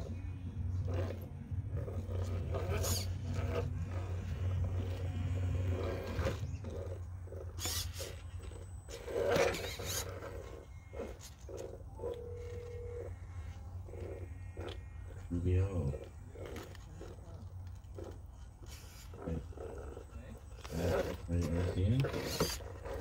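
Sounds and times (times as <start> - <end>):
rc car motor and gears growling: 0.0 - 23.0.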